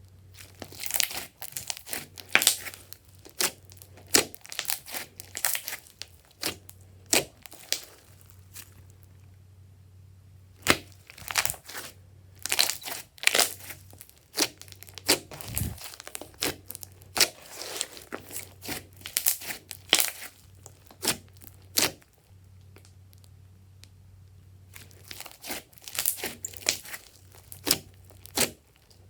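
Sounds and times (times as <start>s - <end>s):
slime squishing and crackling: 0.3s - 9.0s, 10.6s - 22.9s, 24.7s - 29.0s.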